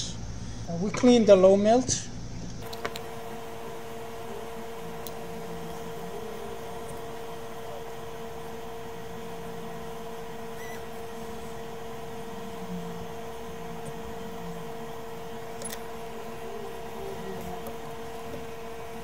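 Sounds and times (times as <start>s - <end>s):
electronics equipment fan hum: 0.0s - 19.0s.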